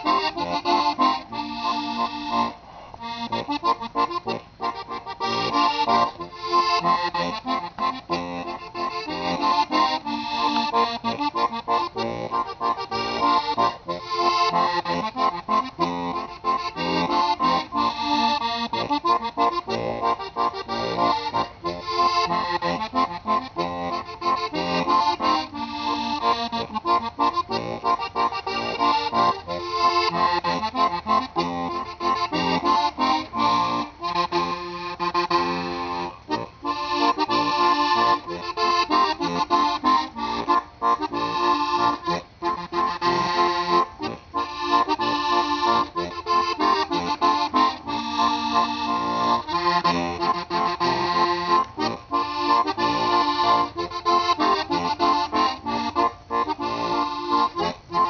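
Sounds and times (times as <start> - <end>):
button accordion folk dance tune: 0.0 - 58.0.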